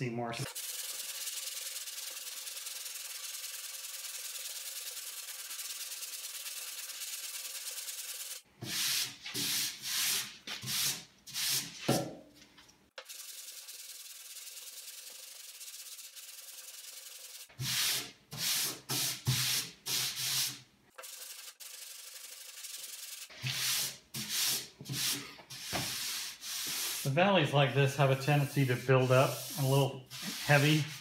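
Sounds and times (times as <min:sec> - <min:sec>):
sanding block rasping on filler: 0:00.5 - 0:11.8, 0:13.1 - 0:27.1, 0:27.9 - 0:31.0.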